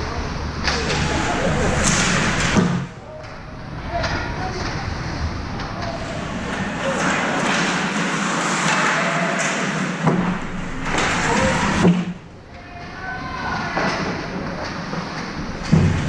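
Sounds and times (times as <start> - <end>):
skate and crowd noise: 0.0 - 16.0.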